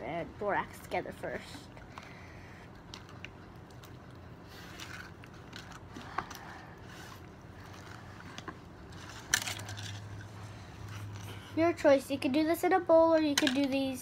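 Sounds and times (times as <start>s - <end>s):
utensil stirring slime: 0.1s - 11.8s.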